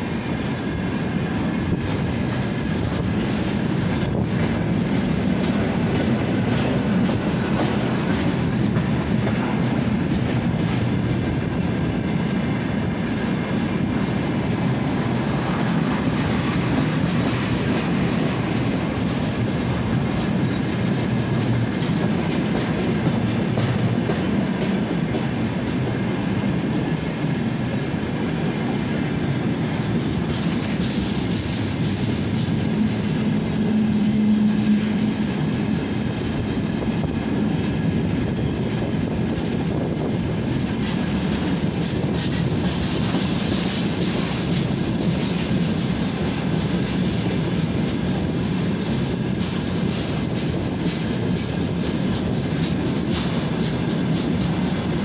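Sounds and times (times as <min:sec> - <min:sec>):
train wheels rumbling and clacking: 0:00.0 - 0:55.0.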